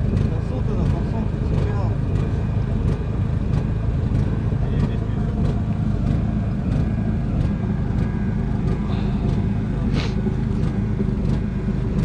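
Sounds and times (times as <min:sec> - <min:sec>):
motor drone: 0:00.0 - 0:12.0.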